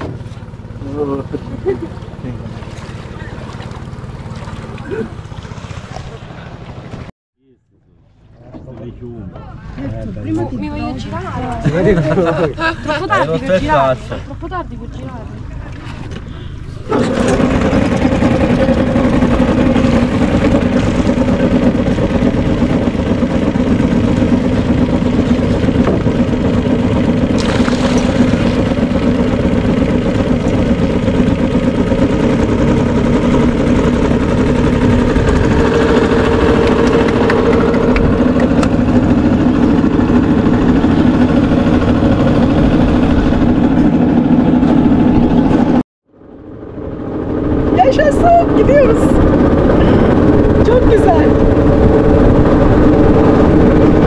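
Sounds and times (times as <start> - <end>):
motorboat engine droning: 0.0 - 7.1, 7.7 - 54.0.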